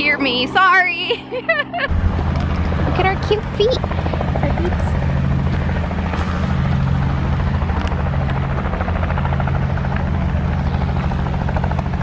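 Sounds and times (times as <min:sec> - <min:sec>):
helicopter rotor drone: 0:00.0 - 0:12.0.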